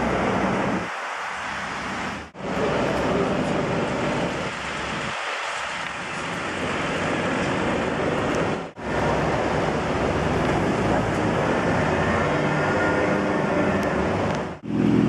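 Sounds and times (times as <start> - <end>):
vehicle and street noise: 0.0 - 15.0.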